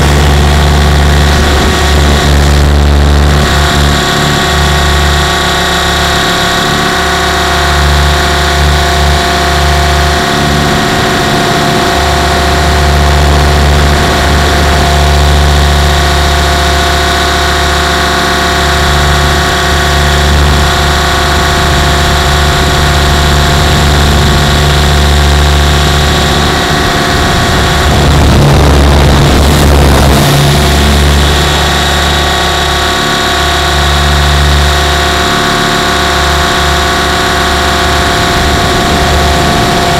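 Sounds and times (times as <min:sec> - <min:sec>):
helicopter motor whine: 0:00.0 - 0:39.9
rotor drone: 0:00.0 - 0:39.9
rushing noise: 0:00.0 - 0:39.9.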